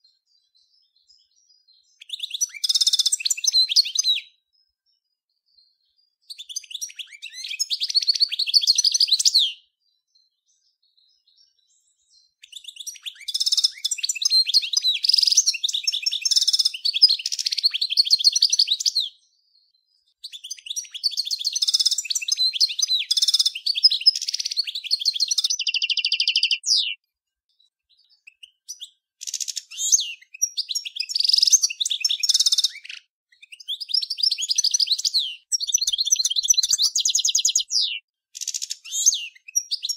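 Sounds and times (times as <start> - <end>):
goldfinch singing twittering trills: 0.0 - 39.9.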